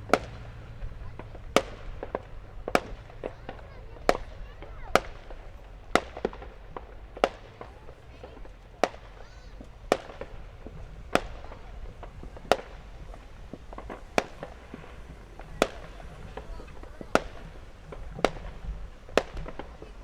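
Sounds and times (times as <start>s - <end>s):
fireworks banging: 0.0s - 20.0s
low background rumble: 0.0s - 20.0s.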